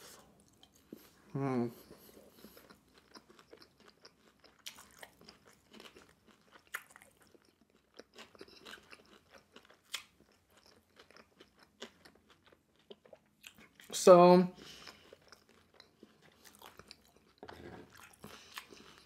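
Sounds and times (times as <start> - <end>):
close-up chewing: 0.0 - 14.0, 14.6 - 19.0.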